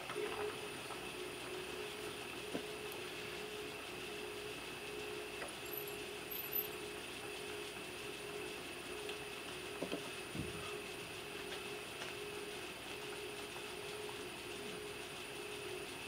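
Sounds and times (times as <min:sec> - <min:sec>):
milling machine gear whine: 0:00.0 - 0:16.0.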